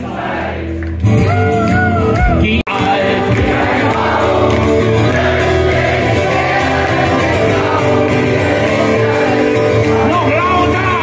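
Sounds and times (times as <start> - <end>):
strummed acoustic guitar: 0.0 - 11.0
amplified band playing: 0.2 - 11.0.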